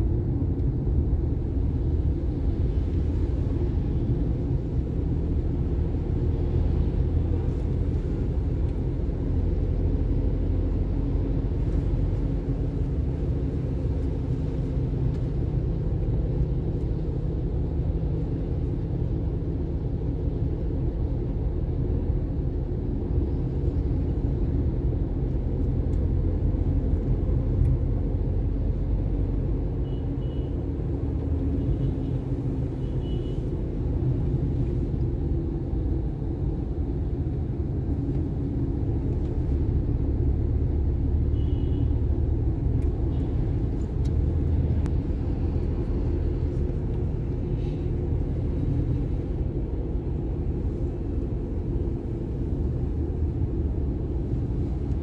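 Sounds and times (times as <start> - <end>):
vehicle road rumble: 0.0 - 55.0.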